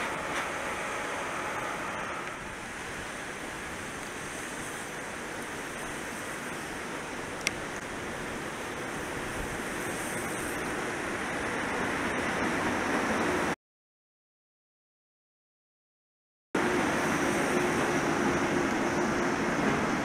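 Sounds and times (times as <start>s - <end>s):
freight train rumble: 0.0s - 13.6s, 16.6s - 20.0s
rain hiss: 0.0s - 13.6s, 16.6s - 20.0s.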